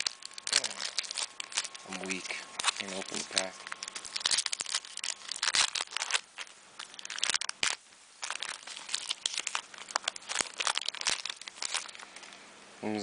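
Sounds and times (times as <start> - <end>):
cards being handled: 0.0 - 12.4
foil wrapper crinkling and tearing: 0.0 - 12.4.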